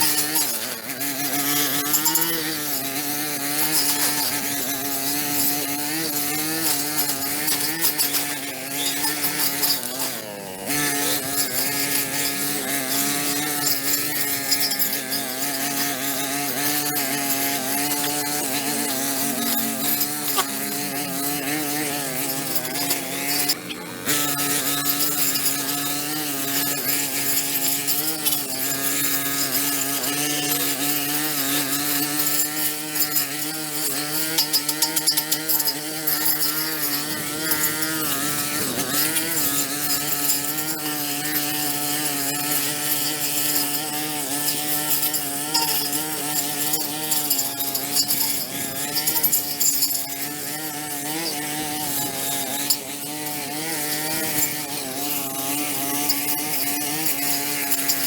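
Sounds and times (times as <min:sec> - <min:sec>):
gritty cutting hiss: 0:00.0 - 0:58.0
petrol power tool running: 0:00.0 - 0:58.0.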